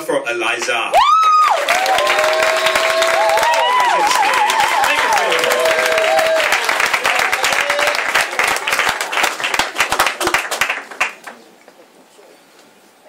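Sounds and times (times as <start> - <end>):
audience applauding: 1.0 - 11.4.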